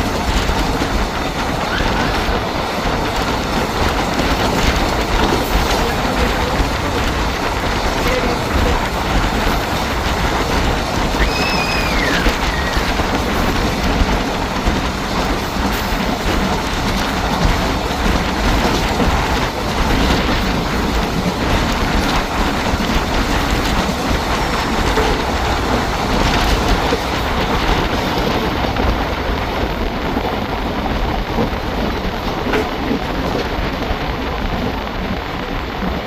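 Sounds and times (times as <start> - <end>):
rushing air: 0.0 - 36.0
train wheels rumbling on rail: 0.0 - 36.0.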